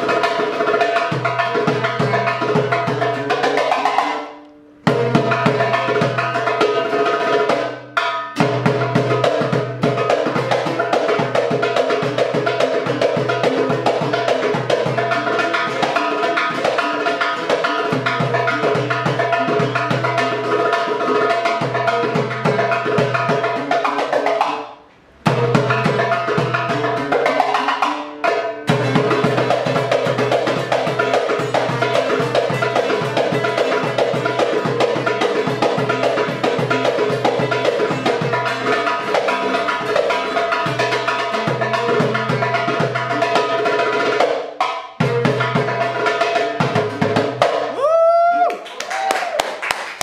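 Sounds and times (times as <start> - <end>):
goblet drum beating: 0.0 - 24.6, 25.2 - 47.8
mandol playing melody: 0.0 - 48.4.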